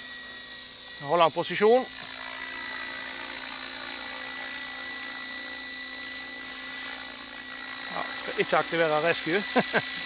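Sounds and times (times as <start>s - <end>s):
model helicopter rotor whine: 0.0s - 10.0s.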